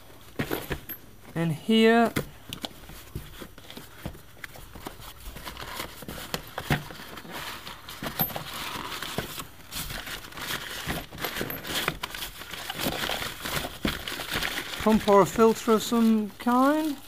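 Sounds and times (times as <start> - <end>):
packing paper rustling: 2.4 - 17.0.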